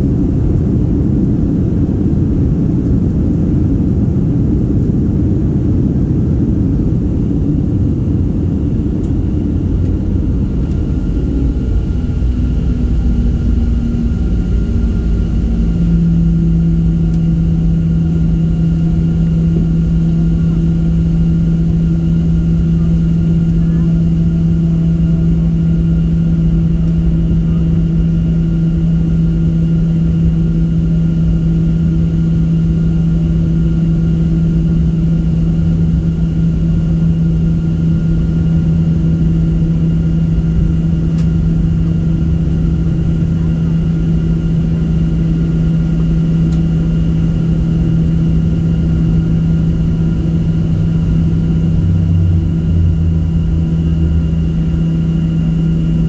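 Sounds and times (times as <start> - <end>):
jet engines humming: 0.0 - 56.0
low rumble: 0.0 - 56.0.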